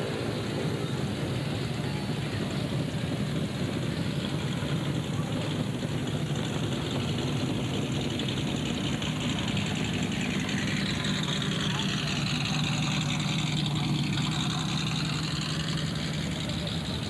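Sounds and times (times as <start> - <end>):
race car engines idling: 0.0 - 17.0.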